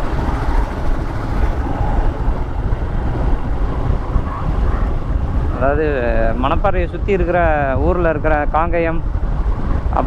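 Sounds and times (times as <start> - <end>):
motorcycle engine running: 0.0 - 9.9
wind buffeting microphone: 0.0 - 10.0.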